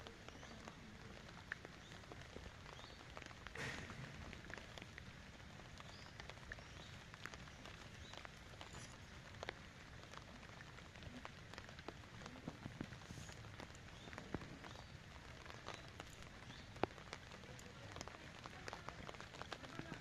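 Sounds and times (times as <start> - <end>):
rain drops tapping on leaves: 0.0 - 20.0
rain hiss: 0.0 - 20.0.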